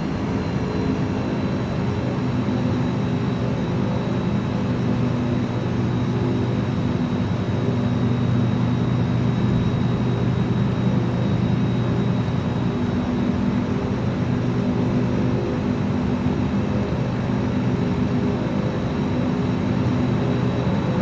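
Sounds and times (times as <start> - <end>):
light aircraft engine droning: 0.0 - 21.0.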